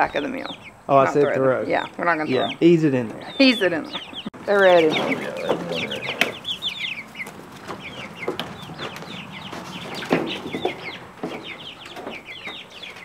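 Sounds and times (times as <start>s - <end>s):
chicks cheeping: 0.0s - 13.0s.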